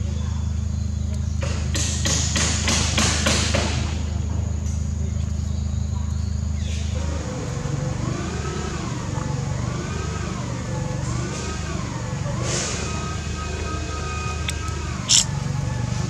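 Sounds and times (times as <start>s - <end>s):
motor engine humming: 0.0s - 16.0s.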